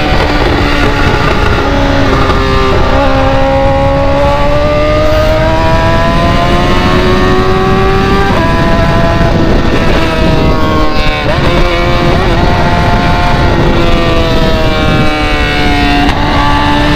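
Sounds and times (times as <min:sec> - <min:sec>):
motorcycle engine accelerating: 0:00.0 - 0:16.9
wind and road rush: 0:00.0 - 0:16.9.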